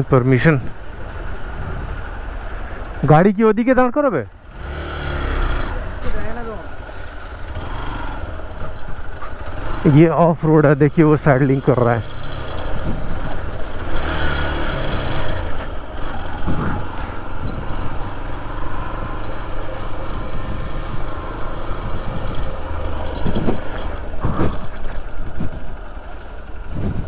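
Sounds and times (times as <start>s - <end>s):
wind and road noise: 0.0s - 27.0s
motorcycle engine: 4.3s - 27.0s.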